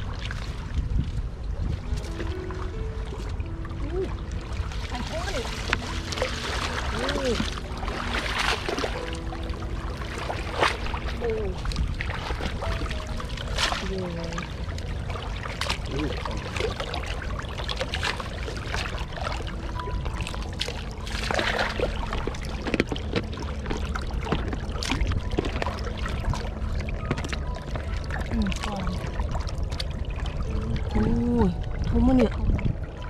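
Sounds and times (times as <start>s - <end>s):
water splashing and trickling: 0.0s - 33.0s.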